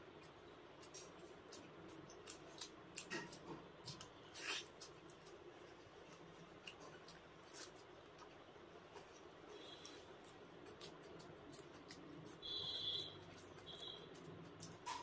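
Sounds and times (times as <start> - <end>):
chewing and mouth smacks: 0.0 - 15.0.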